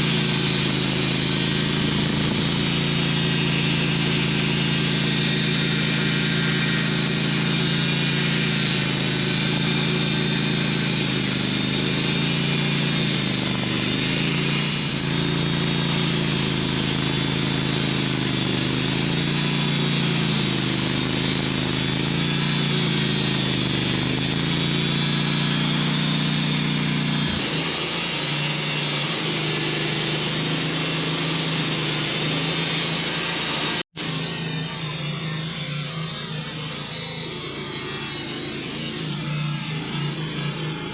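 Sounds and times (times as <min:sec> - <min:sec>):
saw cutting log: 0:00.0 - 0:40.9
sawmill engine running under load: 0:00.0 - 0:40.9.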